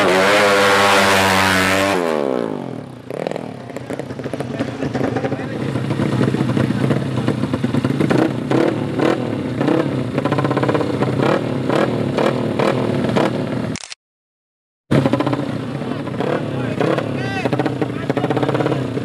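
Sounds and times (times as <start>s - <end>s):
motorcycle engines revving: 0.0s - 13.8s, 14.9s - 19.0s.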